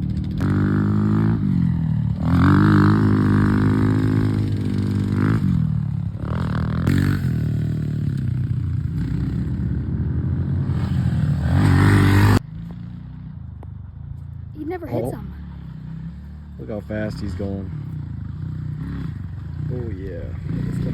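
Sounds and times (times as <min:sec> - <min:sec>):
pit bike engine revving: 0:00.0 - 0:13.2, 0:14.7 - 0:20.9.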